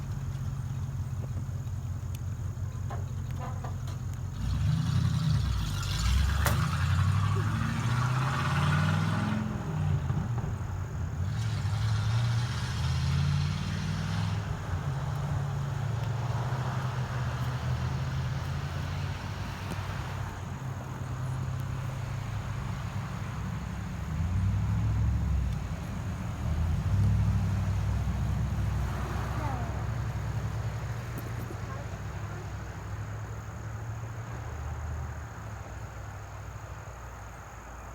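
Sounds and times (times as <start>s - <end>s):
car engine rumbling: 0.0s - 37.9s.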